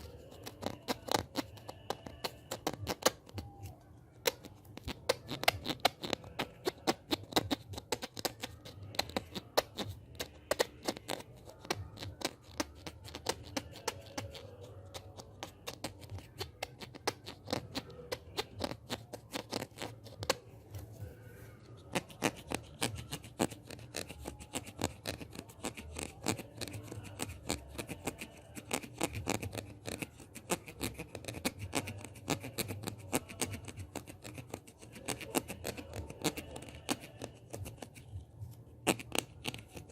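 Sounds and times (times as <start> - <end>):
fingers clicking and scratching: 0.0 - 39.9.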